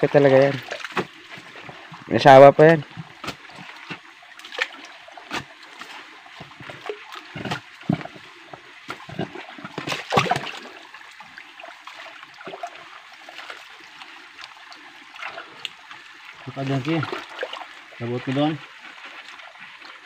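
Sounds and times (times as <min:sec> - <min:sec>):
splashes and stone knocks: 0:00.0 - 0:15.8, 0:16.4 - 0:20.0
rocky stream running: 0:00.0 - 0:20.0.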